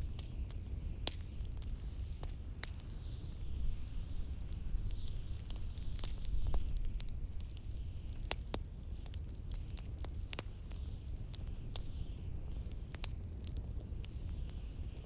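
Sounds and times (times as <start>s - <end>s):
fireplace crackling and popping: 0.0s - 15.0s.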